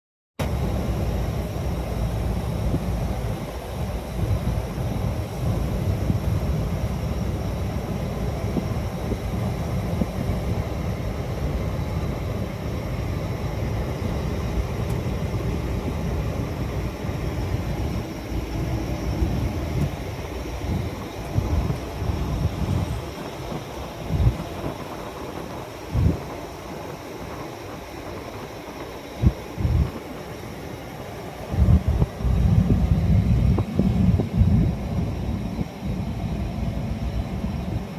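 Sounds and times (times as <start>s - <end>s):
truck engine and road noise: 0.4s - 37.9s.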